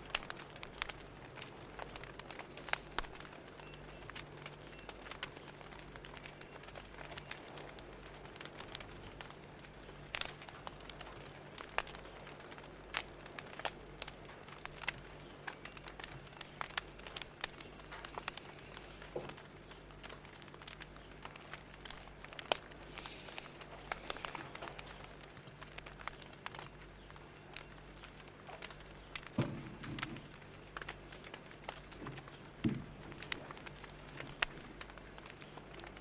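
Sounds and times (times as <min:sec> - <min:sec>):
fire crackling and popping: 0:00.0 - 0:36.0
soft steady hiss: 0:00.0 - 0:36.0.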